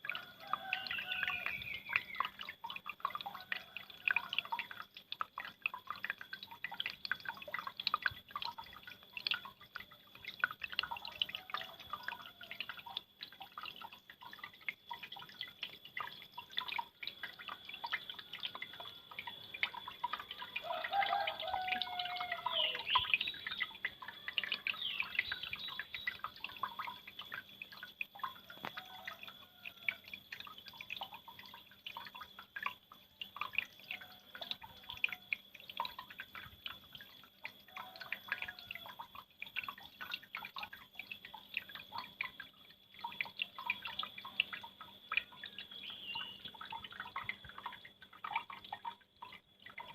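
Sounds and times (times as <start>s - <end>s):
water trickling and dripping: 0.0s - 49.9s.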